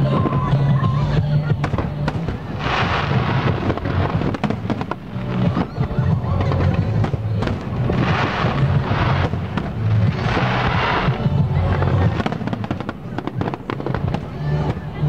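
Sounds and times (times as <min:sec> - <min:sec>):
fireworks bursting with bangs: 0:00.0 - 0:15.0
fireworks crackling: 0:00.0 - 0:15.0.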